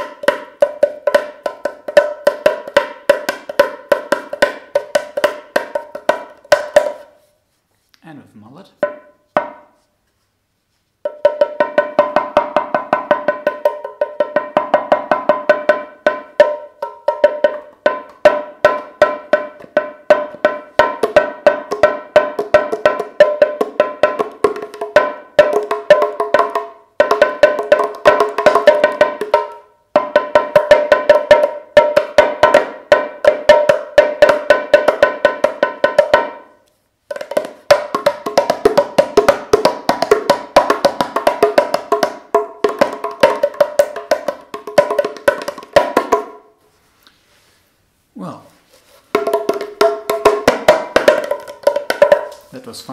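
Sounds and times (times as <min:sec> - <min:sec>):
hand drum struck with mallet: 0:00.0 - 0:07.1, 0:08.8 - 0:09.8, 0:11.0 - 0:46.4, 0:49.1 - 0:52.4.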